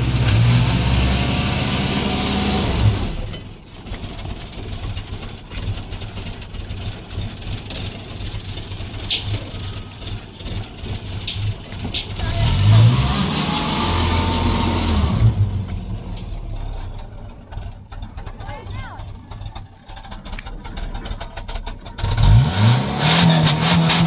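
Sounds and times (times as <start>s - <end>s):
car engine revving: 0.0s - 3.4s, 5.0s - 24.0s.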